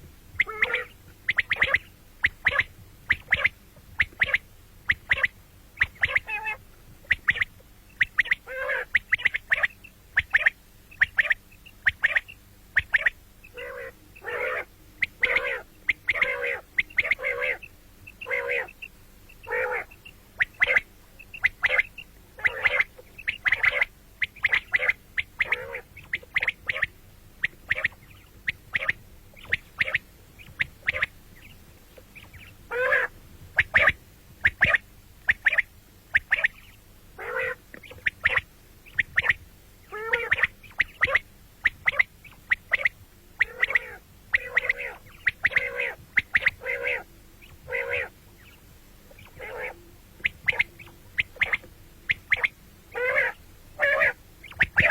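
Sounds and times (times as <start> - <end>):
quail calling: 0.0 - 54.9.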